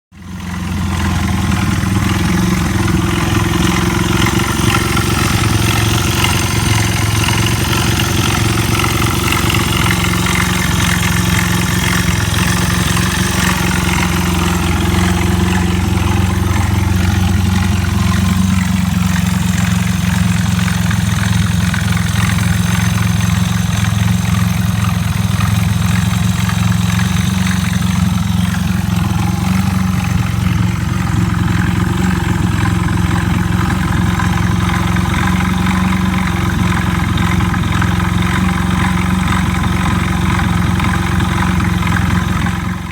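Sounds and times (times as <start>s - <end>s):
abnormal engine noise: 0.1s - 42.9s
motorcycle engine idling: 0.1s - 42.9s.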